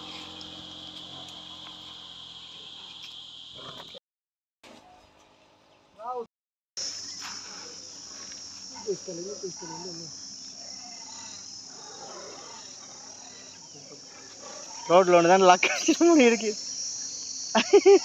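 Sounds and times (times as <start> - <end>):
insects droning: 0.0 - 4.0, 6.0 - 18.0.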